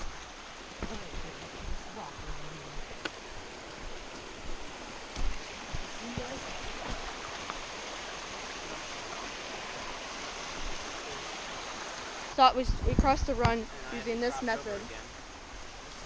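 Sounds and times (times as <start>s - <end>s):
stream running: 0.0s - 16.0s.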